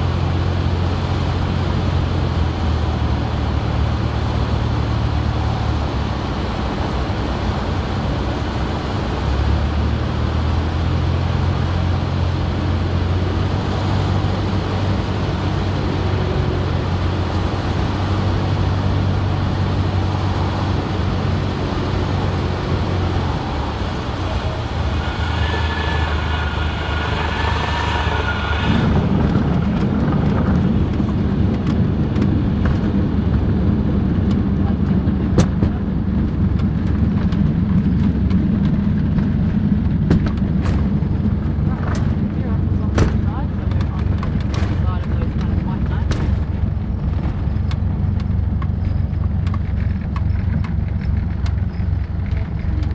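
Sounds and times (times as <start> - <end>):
propeller aircraft engine drone: 0.0 - 52.9
wheels rumbling and rattling over grass: 0.0 - 52.9.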